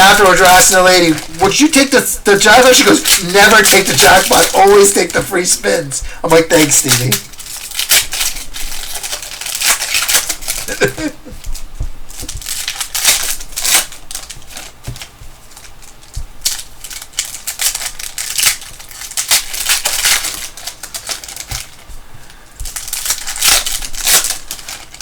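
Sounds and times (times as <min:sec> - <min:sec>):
card wrappers tearing and crinkling: 0:00.0 - 0:25.0
cards rubbing and sliding: 0:00.0 - 0:25.0.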